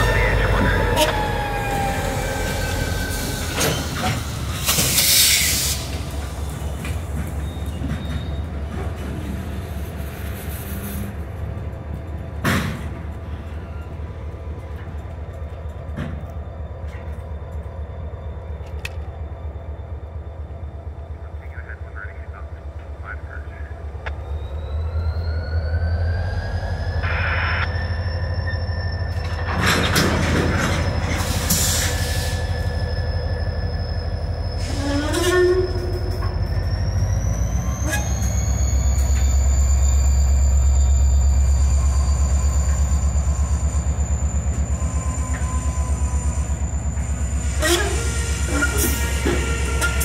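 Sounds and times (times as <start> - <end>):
train squeal: 0.0 - 22.2, 23.0 - 50.0
locomotive engine drone: 0.0 - 50.0.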